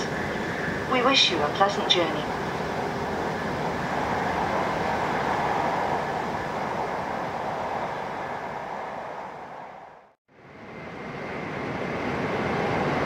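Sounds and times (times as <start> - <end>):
high-speed train cabin rushing hum: 0.0 - 13.0.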